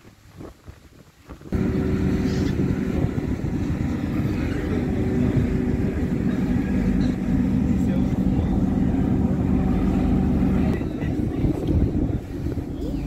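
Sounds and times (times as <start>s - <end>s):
wind buffeting microphone: 0.0s - 13.0s
ferry machinery hum: 1.5s - 13.0s.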